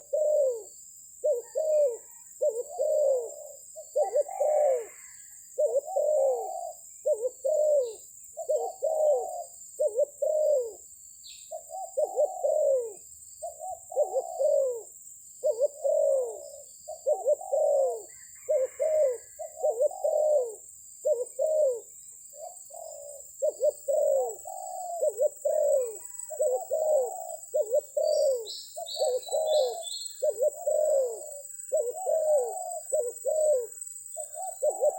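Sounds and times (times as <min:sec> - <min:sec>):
doves cooing: 0:00.0 - 0:34.9.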